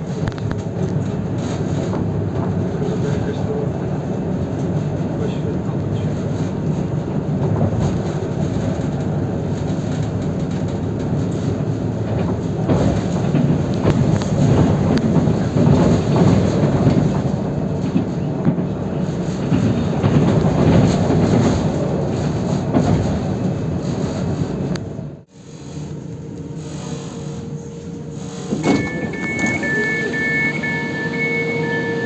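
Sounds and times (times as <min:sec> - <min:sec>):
wheels clicking on track: 0:00.0 - 0:24.2, 0:28.4 - 0:32.0
train rumbling on rails: 0:00.0 - 0:32.0.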